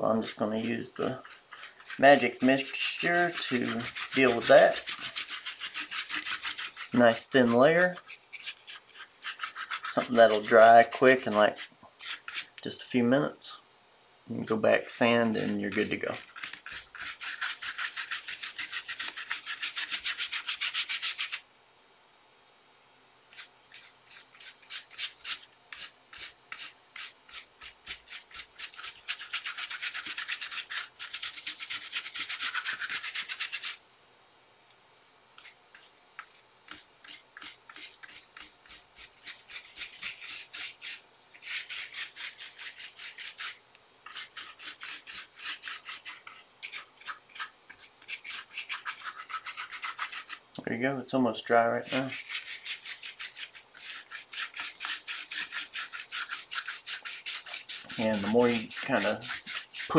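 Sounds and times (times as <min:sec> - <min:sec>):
paintbrush scrubbing paper: 0:00.0 - 0:12.6, 0:14.4 - 0:21.4, 0:23.3 - 0:33.8, 0:35.4 - 0:50.4, 0:51.8 - 0:59.9.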